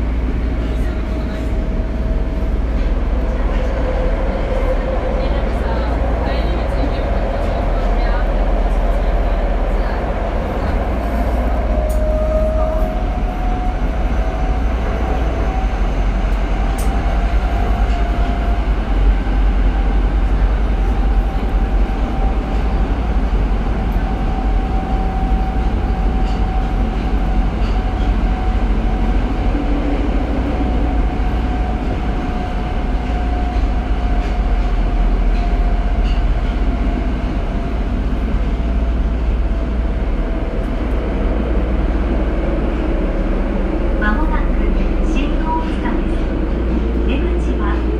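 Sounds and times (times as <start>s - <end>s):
subway wheels rumbling on rail: 0.0s - 47.9s.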